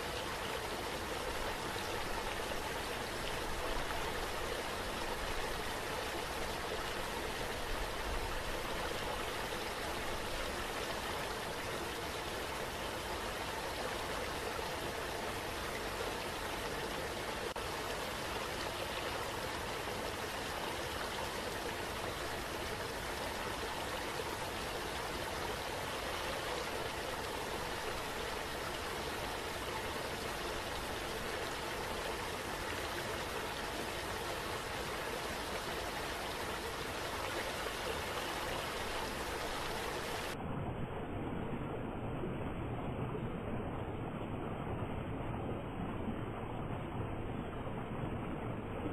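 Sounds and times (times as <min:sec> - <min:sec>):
rushing water: 0:00.0 - 0:40.4.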